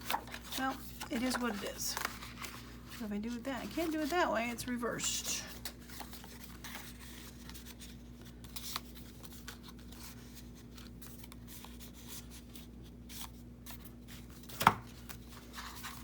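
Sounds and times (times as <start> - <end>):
faint steady hum: 0.0 - 16.0
paper rustling: 0.0 - 16.0.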